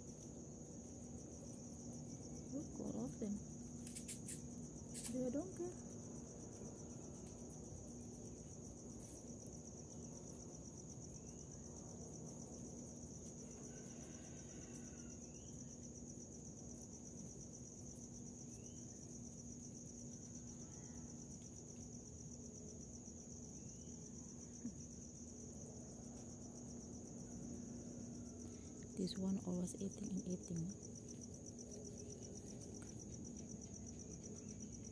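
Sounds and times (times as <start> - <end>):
crickets trilling: 0.0 - 34.9
faint low hum: 0.0 - 34.9.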